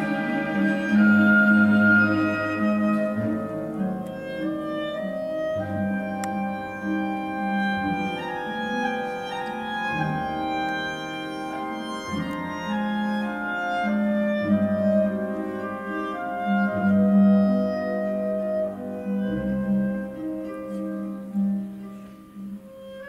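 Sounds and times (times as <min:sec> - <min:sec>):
classical ballet music: 0:00.0 - 0:23.0.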